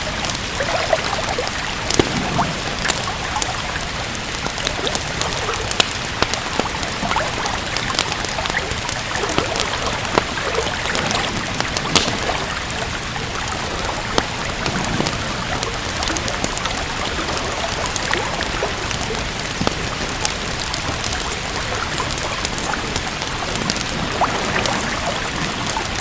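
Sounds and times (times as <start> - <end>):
steady rain falling: 0.0 - 26.0
wood fire crackling: 0.0 - 26.0.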